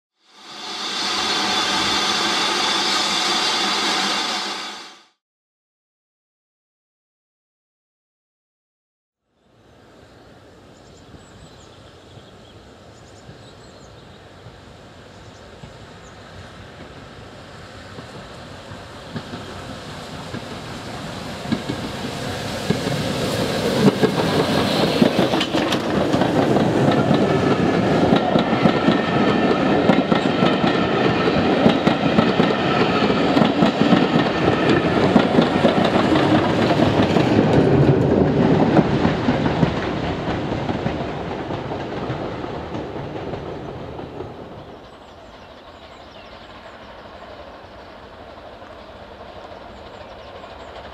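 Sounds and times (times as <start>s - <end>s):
steam train passing: 0.2s - 5.2s, 9.7s - 50.9s.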